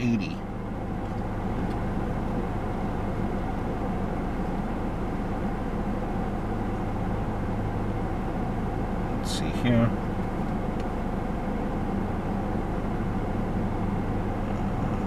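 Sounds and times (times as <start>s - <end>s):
car engine idling hum: 0.0s - 15.0s
ventilation fan rushing air: 0.0s - 15.0s.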